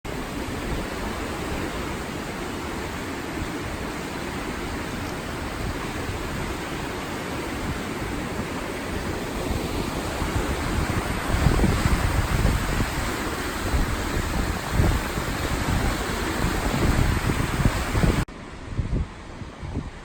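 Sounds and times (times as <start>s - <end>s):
waterfall rushing: 0.1s - 18.5s.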